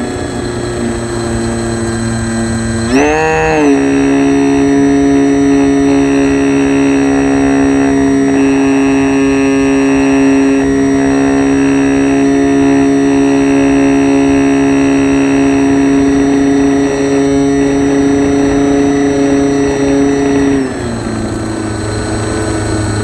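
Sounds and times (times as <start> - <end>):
model plane motor and propeller: 0.0 - 23.0.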